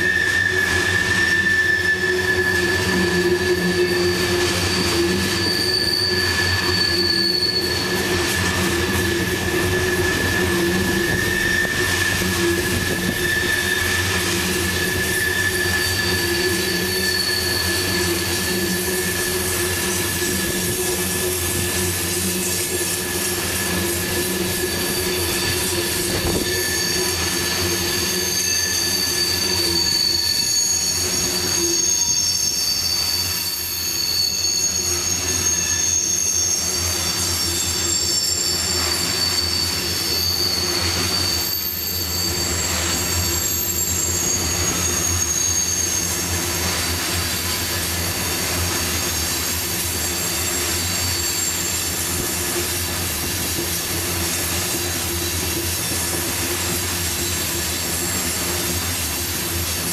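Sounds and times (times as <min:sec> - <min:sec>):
rumble of train wheels: 0:00.0 - 0:59.9
wheel flanges squealing on rail: 0:00.0 - 0:59.9.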